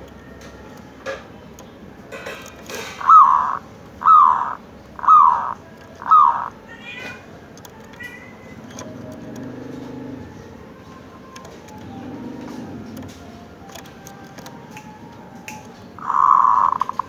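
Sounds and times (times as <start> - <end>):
dove cooing: 2.1 - 17.0.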